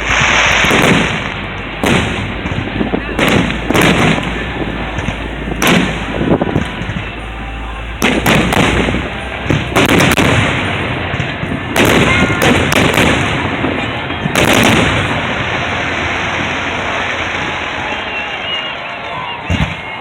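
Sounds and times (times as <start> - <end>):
fireworks bangs echoing: 0.0 - 20.0.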